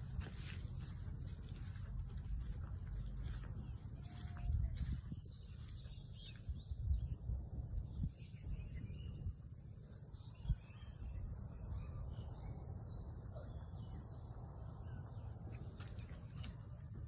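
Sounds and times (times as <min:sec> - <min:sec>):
steady low rumble: 0:00.0 - 0:17.0
small birds chirping: 0:00.3 - 0:17.0.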